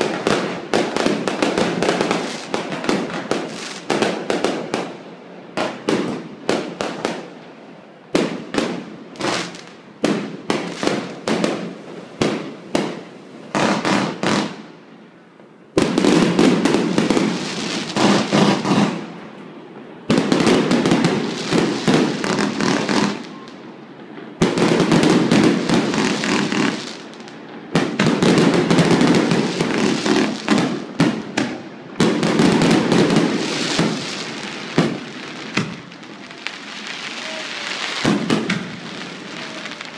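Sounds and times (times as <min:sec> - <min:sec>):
firework bangs: 0:00.0 - 0:14.8, 0:15.7 - 0:39.9
firework crackling bursts: 0:00.0 - 0:15.0, 0:15.7 - 0:39.9.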